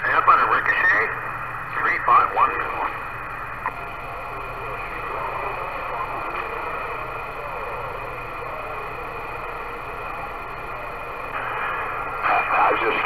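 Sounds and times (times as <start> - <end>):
garbled distant radio station: 0.0 - 13.0
radio static hiss: 0.0 - 13.0.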